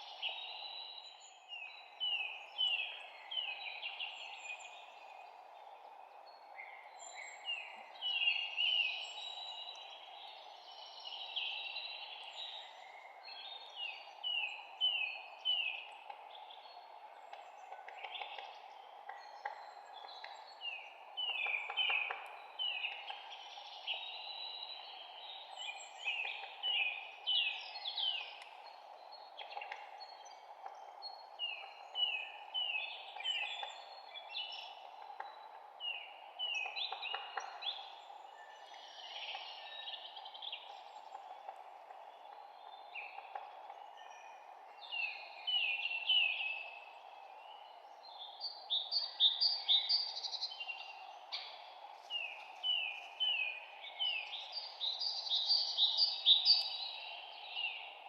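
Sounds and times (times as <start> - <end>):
low background hiss: 0.0 - 58.0
songbirds chirping: 0.0 - 58.0.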